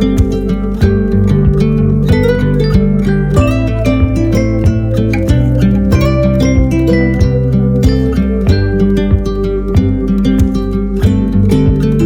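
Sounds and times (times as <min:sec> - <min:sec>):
plucked guitar instrumental: 0:00.0 - 0:12.0.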